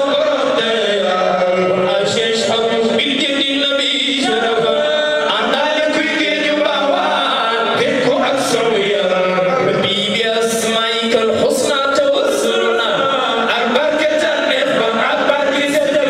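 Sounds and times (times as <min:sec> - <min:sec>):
men chanting devotional song: 0:00.0 - 0:16.0.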